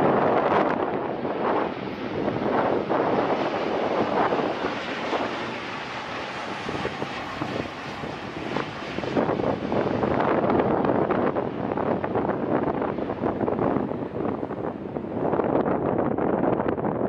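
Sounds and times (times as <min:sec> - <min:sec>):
airliner engine roar: 0:00.0 - 0:17.0.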